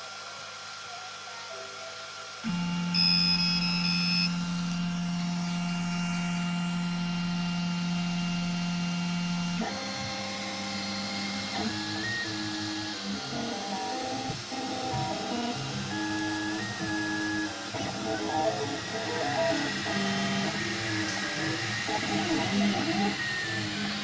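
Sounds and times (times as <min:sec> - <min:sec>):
stepper motors whining: 0:02.5 - 0:24.0.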